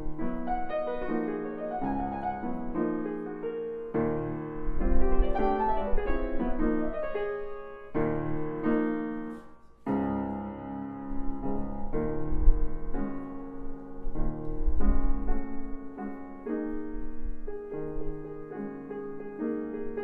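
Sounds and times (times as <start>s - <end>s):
grand piano playing slow piece: 0.0s - 20.0s.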